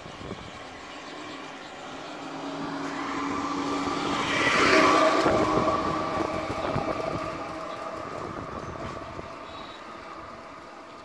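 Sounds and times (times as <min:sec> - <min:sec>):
vehicle engine passing: 0:00.2 - 0:11.0.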